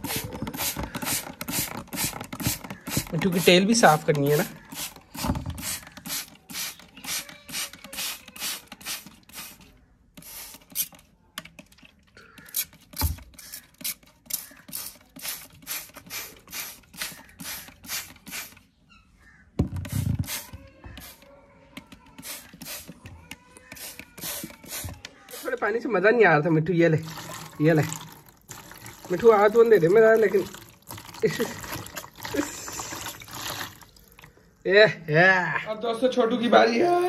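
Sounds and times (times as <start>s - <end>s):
spray bottle spritzing: 0.0s - 11.0s, 12.4s - 18.7s, 19.8s - 21.2s, 21.8s - 25.6s, 27.0s - 34.3s.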